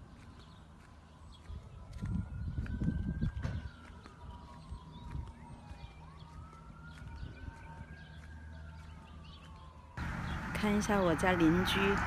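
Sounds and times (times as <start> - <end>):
distant siren wailing: 0.6 - 12.0.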